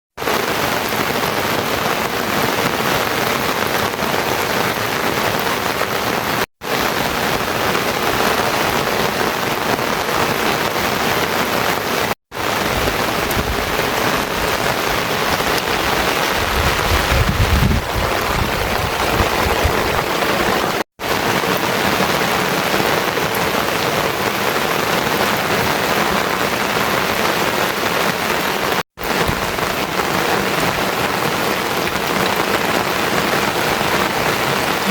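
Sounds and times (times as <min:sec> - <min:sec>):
heavy rain hiss: 0:00.2 - 0:34.9.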